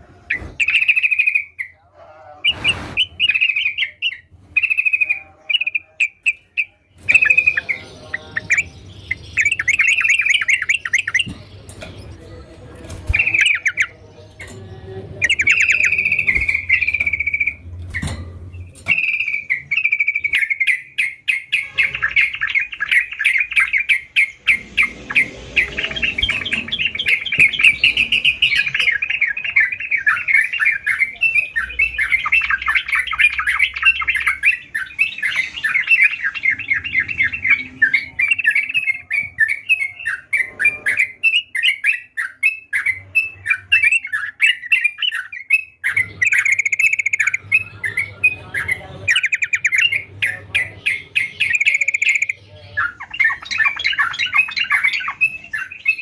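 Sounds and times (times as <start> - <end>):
bird singing chattering notes: 0.3 - 1.8, 2.4 - 56.0.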